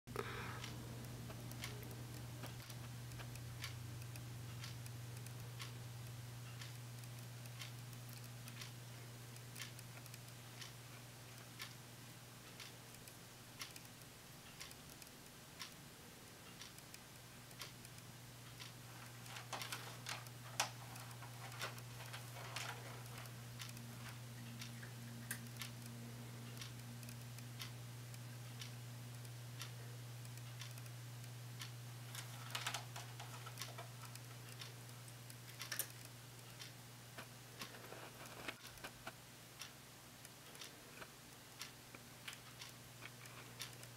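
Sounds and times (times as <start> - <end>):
clock ticking: 0.1 - 43.9.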